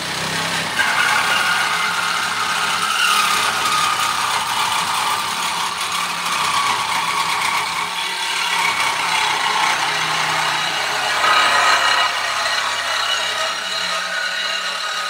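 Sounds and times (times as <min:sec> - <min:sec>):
reciprocating saw cutting steel: 0:00.0 - 0:15.0.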